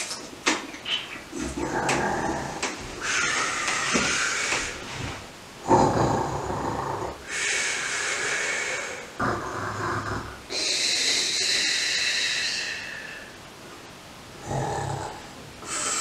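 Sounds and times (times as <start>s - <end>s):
person snoring: 1.4s - 13.3s, 14.4s - 16.0s
hissing breaths: 1.4s - 13.4s, 14.4s - 16.0s.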